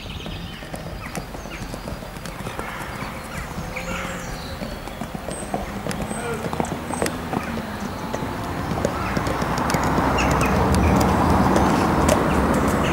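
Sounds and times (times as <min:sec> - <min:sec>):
horse hoofbeats on sand: 0:00.0 - 0:12.9.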